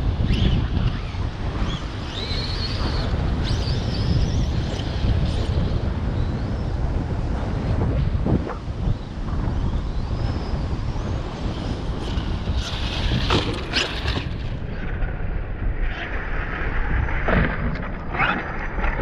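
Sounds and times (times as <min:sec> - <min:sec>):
electric rc car motor on sand: 0:00.0 - 0:15.2
wind buffeting microphone: 0:00.0 - 0:19.0.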